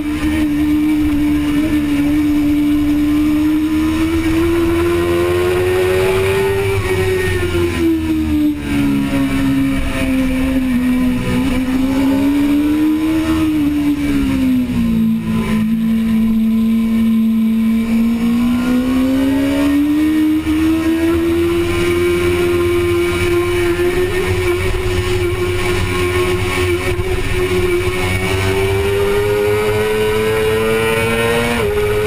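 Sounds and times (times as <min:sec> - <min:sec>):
motorcycle engine at racing speed: 0:00.0 - 0:32.0.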